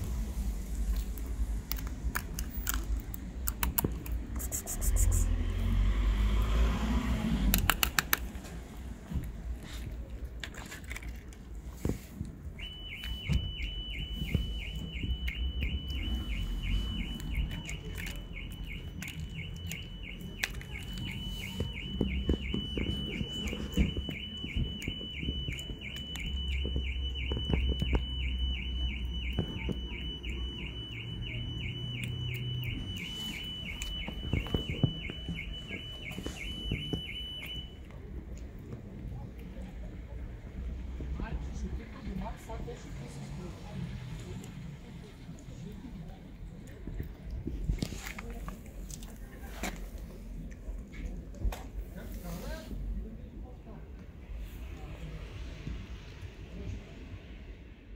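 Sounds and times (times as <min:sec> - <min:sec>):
kitten eating wet food: 0:00.0 - 0:56.7.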